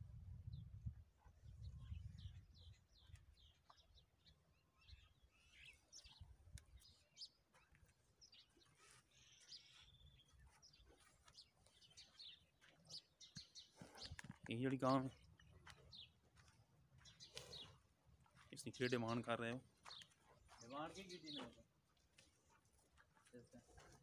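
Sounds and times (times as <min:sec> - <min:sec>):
small birds chirping: 0:00.4 - 0:24.0.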